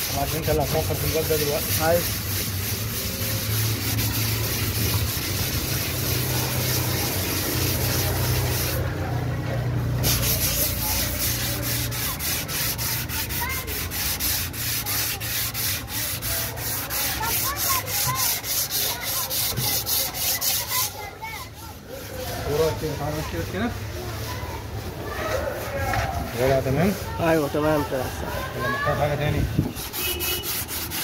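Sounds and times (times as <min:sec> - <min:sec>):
sandpaper rubbing on car panel: 0:00.0 - 0:08.8, 0:10.0 - 0:31.0.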